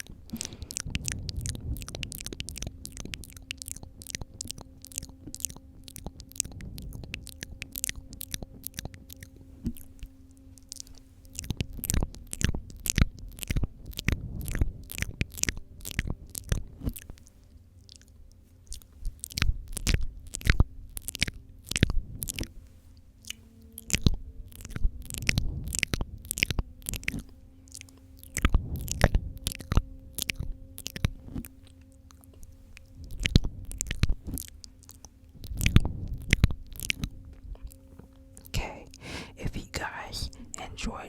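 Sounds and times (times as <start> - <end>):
wet tongue clicks and smacks: 0.0 - 22.5, 23.2 - 41.0.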